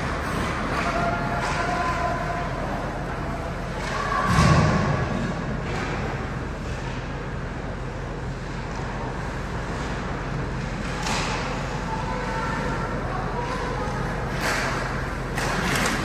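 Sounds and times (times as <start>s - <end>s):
rink background hum: 0.0s - 16.0s.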